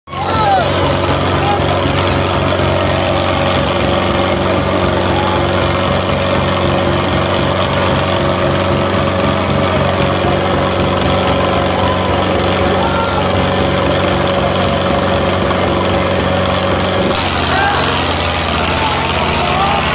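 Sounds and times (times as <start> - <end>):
tractor diesel engine chugging: 0.1 - 19.9.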